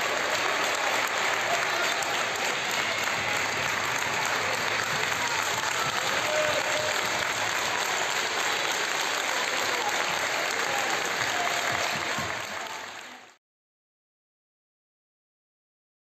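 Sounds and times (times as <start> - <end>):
children clapping: 0.0 - 13.4.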